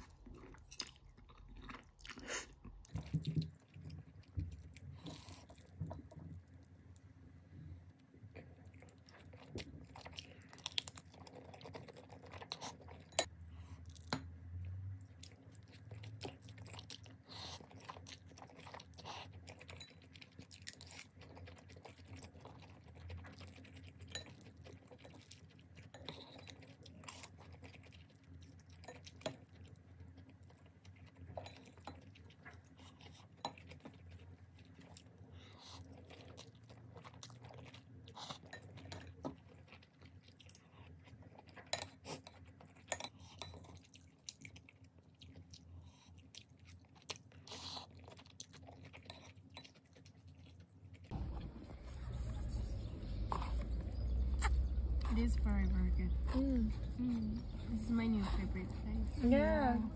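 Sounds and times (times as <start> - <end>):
chewing: 0.0 - 7.1, 7.8 - 59.9.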